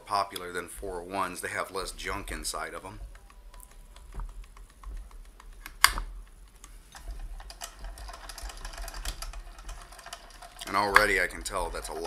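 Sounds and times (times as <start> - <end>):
sewing machine gears clicking: 0.0 - 12.0.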